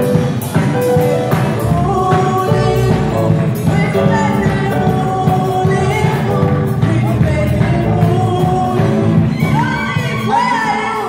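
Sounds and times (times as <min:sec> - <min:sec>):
band playing steady beat: 0:00.0 - 0:11.0
group of singers singing: 0:01.4 - 0:11.0.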